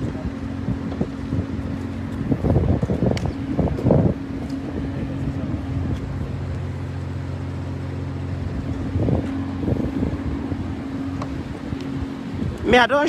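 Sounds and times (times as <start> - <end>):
even tones: 0.0 - 13.0
low engine hum: 0.0 - 13.0
wind buffeting microphone: 0.0 - 13.0.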